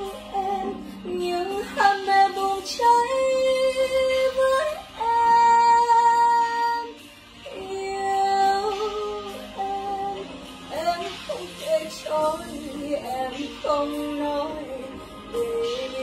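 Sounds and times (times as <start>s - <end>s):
woman singing slow ballad: 0.0s - 16.0s.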